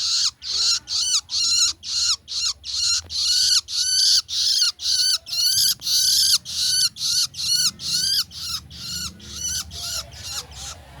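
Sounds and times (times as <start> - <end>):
bird giving harsh rasping calls: 0.0 - 10.9.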